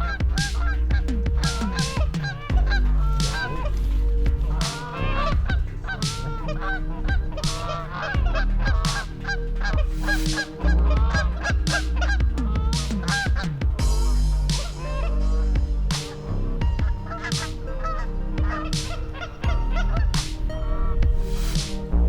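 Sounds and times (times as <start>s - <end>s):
geese honking: 0.0s - 15.4s, 17.1s - 20.1s
low rumble: 0.0s - 22.0s.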